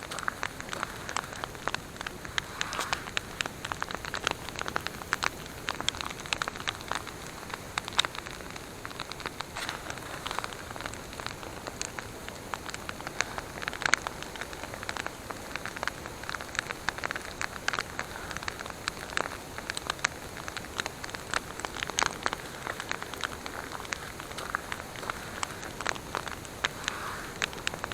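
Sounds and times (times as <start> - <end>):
campfire crackling: 0.0 - 27.9
sharp fire pops: 0.0 - 27.9
steady fire hiss: 0.0 - 27.9.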